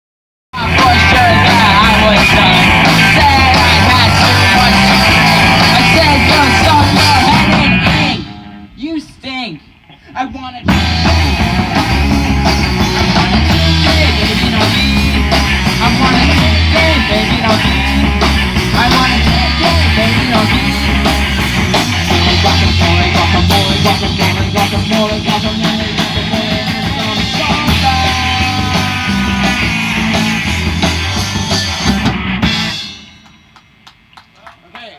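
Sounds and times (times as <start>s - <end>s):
live rock band playing: 0.6s - 8.9s, 10.6s - 34.1s.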